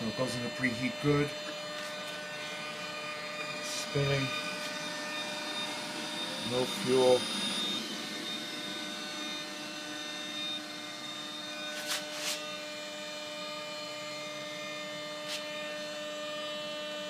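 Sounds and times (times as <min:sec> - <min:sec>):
jet turbine starter whine: 0:00.0 - 0:16.6.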